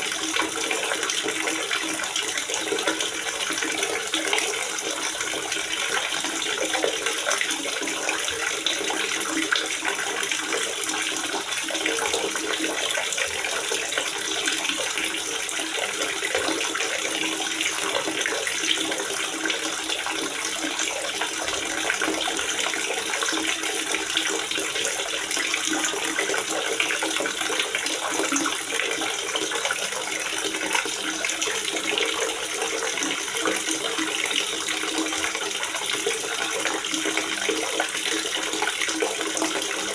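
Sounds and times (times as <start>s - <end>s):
water gurgling and splashing: 0.0s - 39.9s.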